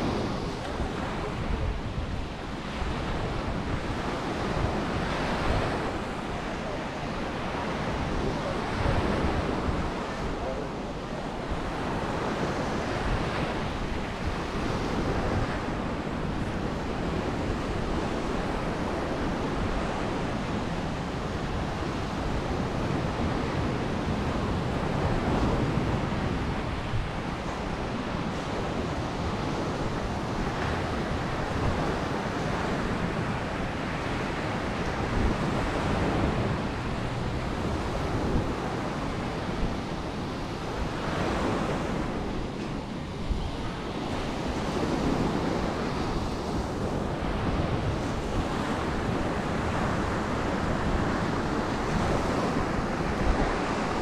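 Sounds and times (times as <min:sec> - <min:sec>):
waves washing onto beach: 0:00.0 - 0:54.0
wind rumbling on microphone: 0:00.0 - 0:54.0.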